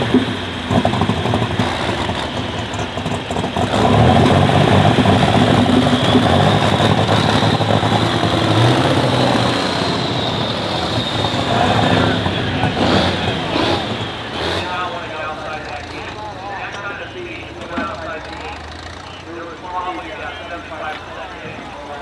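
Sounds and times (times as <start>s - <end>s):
tractor diesel engine running hard: 0.0s - 22.0s.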